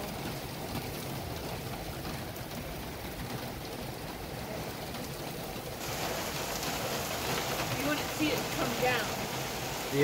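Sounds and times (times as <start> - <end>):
rain on concrete: 0.0 - 10.0.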